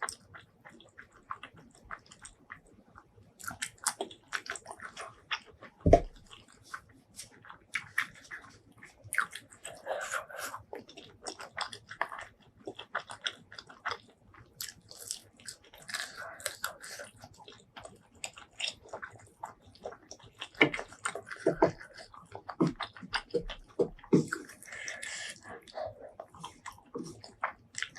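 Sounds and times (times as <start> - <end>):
wet crunchy chewing: 0.0 - 27.9.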